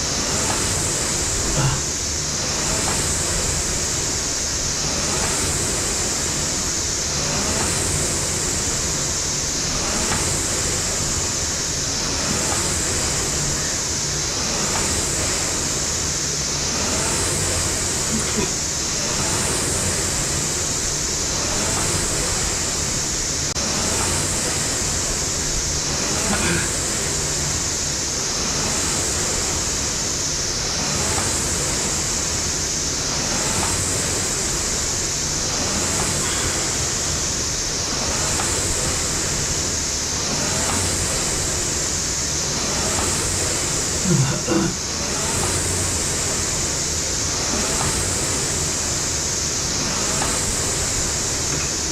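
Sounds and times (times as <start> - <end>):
rowing machine flywheel whooshing: 0.0 - 51.9.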